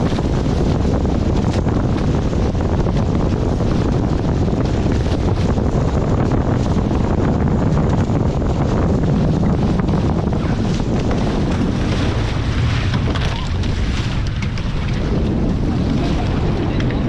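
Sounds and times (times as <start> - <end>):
water rushing along boat hulls: 0.0 - 17.0
wind buffeting microphone: 0.0 - 17.0.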